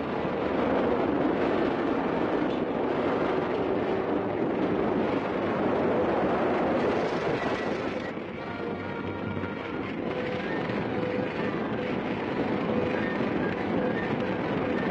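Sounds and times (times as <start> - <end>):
large fire rushing: 0.0 - 14.9.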